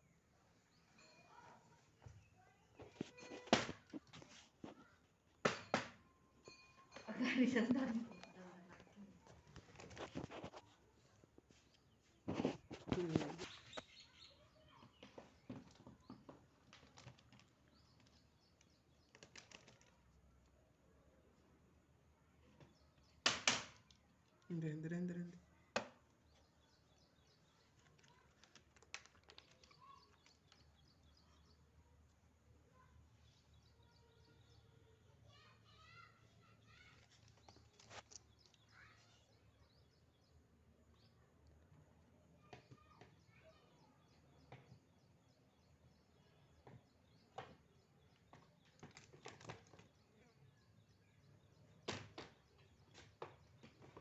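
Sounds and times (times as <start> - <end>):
small birds chirping: 6.4 - 54.0.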